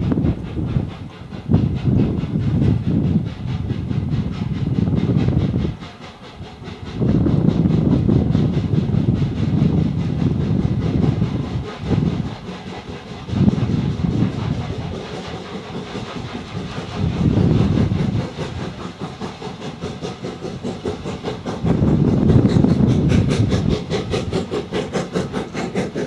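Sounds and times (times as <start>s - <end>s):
steam locomotive exhaust chuffs: 0.0s - 26.0s
wheel and rail noise: 0.0s - 26.0s.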